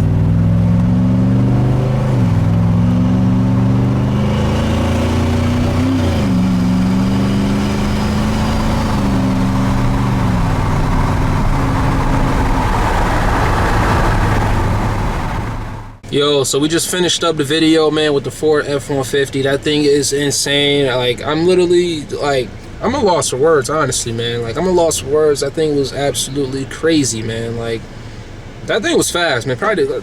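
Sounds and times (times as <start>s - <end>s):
truck engine pulling hard: 0.0s - 30.0s.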